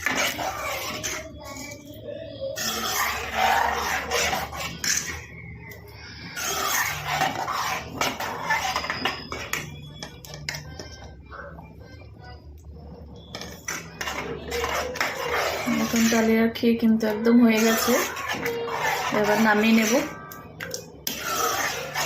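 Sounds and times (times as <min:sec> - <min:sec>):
spoon scraping a cooking pot: 0:00.0 - 0:11.2, 0:13.0 - 0:22.0.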